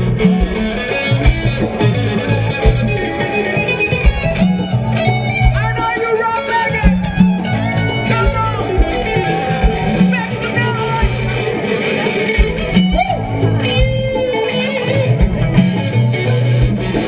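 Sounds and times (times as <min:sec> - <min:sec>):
bass guitar: 0:00.0 - 0:17.0
drum beat: 0:00.0 - 0:17.0
electric guitar: 0:00.0 - 0:17.0.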